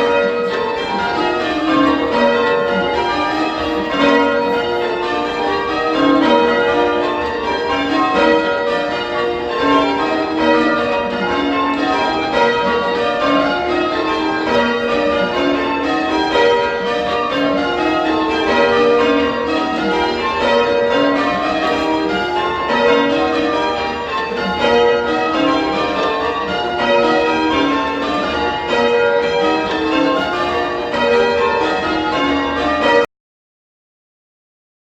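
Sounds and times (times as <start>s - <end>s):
church bells change ringing: 0.0s - 33.1s.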